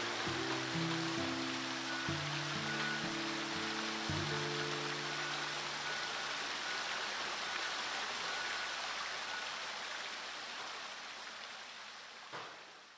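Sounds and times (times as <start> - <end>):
fountain water splashing: 0.0 - 12.9.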